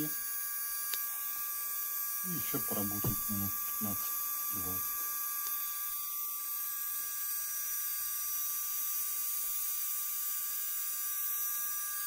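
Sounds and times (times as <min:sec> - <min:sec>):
micromotor handpiece whine: 0:00.0 - 0:12.0.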